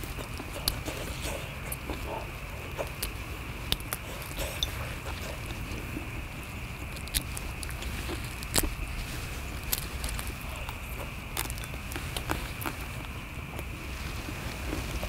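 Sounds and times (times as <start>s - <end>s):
prawn shells cracking: 0.0s - 13.7s
chewing: 0.0s - 15.0s.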